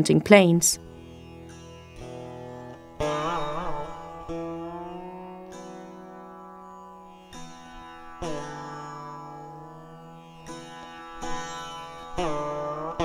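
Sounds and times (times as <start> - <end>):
plucked string instrument: 0.8 - 13.0.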